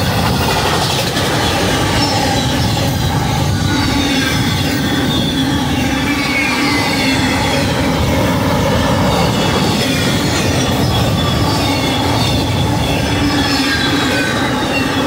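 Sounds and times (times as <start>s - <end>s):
freight train wheels on rail: 0.0s - 15.0s
high wheel squeals: 1.3s - 15.0s.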